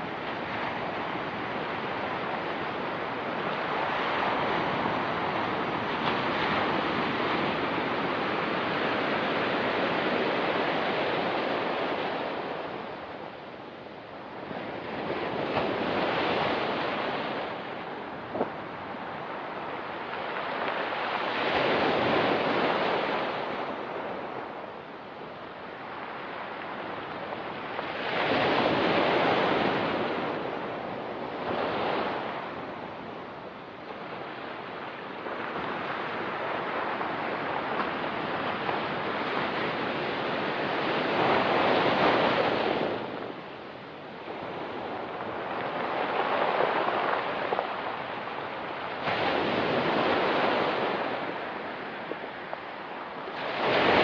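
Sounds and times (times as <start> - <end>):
surf washing on pebble beach: 0.0 - 54.0.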